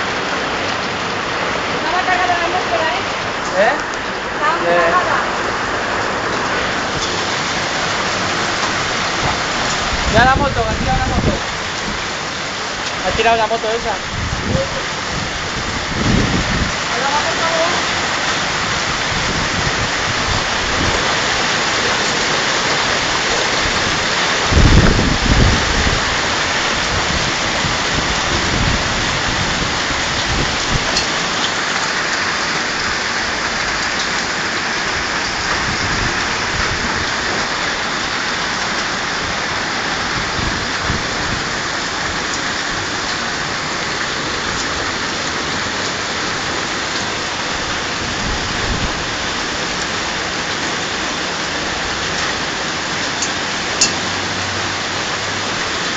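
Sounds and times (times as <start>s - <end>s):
hail and rain pelting: 0.0s - 55.9s.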